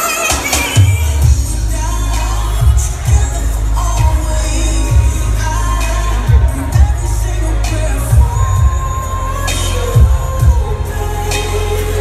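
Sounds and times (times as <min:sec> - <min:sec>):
loud music with deep bass beat: 0:00.0 - 0:12.0.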